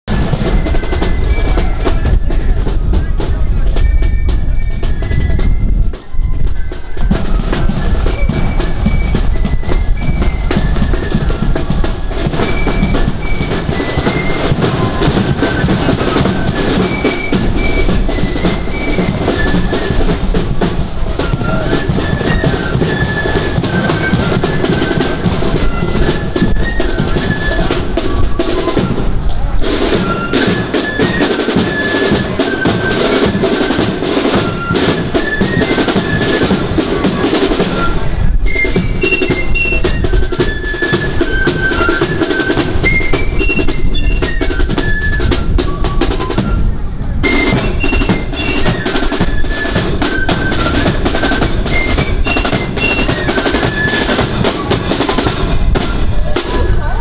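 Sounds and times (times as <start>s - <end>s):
snare drums: 0.0s - 57.0s
flute tune: 0.1s - 57.0s.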